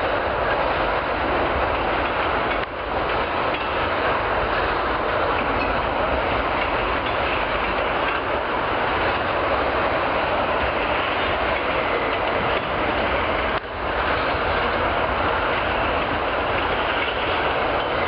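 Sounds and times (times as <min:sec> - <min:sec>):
clicks at rail joints: 0:00.0 - 0:18.0
train wheels rumbling on rails: 0:00.0 - 0:18.0.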